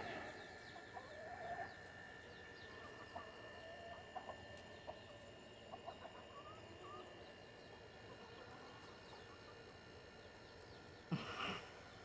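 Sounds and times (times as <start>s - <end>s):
chickens clucking: 0.0s - 11.1s.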